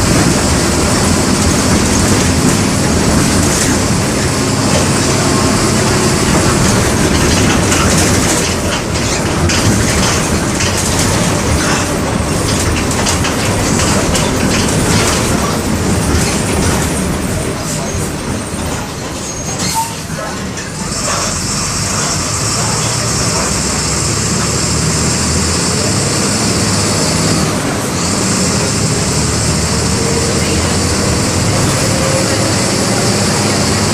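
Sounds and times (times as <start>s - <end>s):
bus body rattling and knocking: 0.0s - 33.9s
bus engine running: 0.0s - 33.9s.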